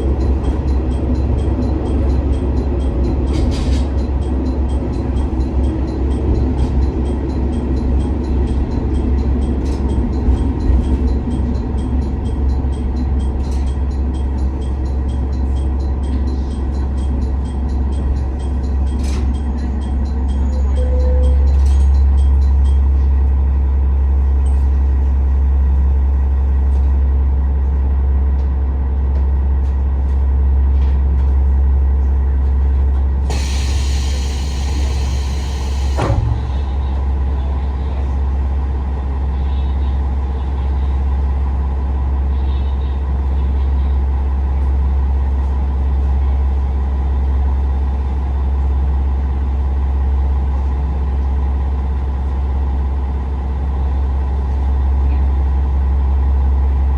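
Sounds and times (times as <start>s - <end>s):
diesel railcar engine rumble: 0.0s - 56.9s.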